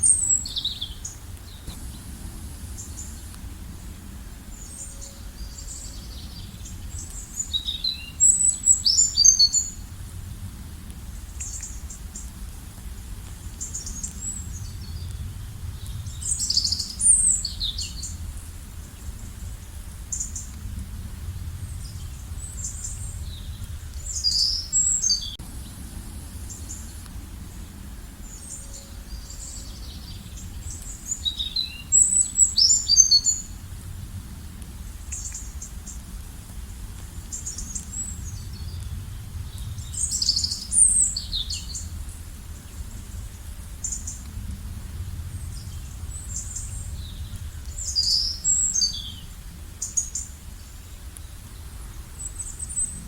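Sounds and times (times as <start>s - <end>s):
songbirds chirping: 0.0s - 53.0s
steady low rumble: 0.0s - 53.0s.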